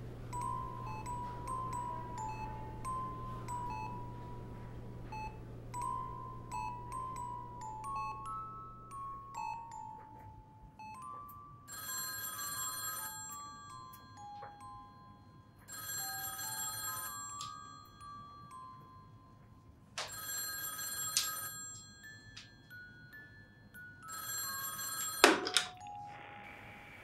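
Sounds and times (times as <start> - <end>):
soft chiming melody: 0.0 - 12.1, 12.9 - 20.0, 21.1 - 26.2
telephone bell ringing: 0.3 - 19.4, 20.0 - 27.0.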